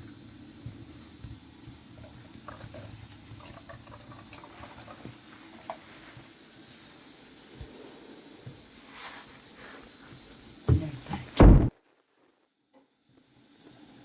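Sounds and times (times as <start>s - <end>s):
faint water sounds: 0.0s - 11.6s.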